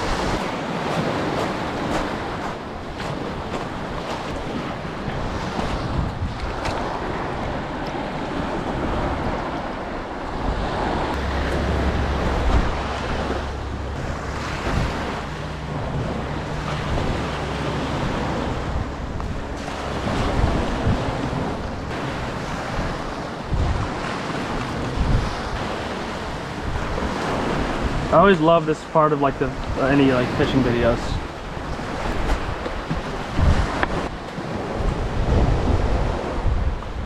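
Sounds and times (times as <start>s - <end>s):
wind rumbling on microphone: 0.0s - 28.4s, 29.3s - 37.0s
waves washing on pebbles: 0.0s - 36.4s.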